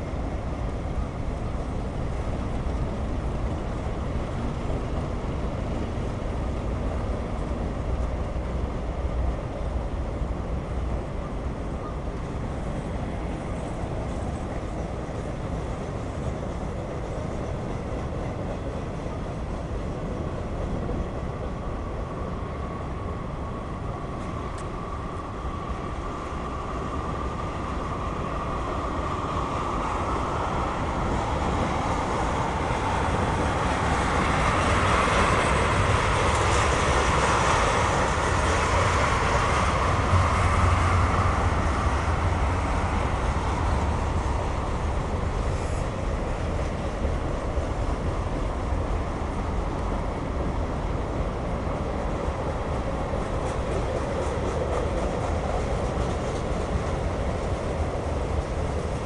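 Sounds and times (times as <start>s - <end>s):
steel wheels on rails: 0.0s - 59.0s.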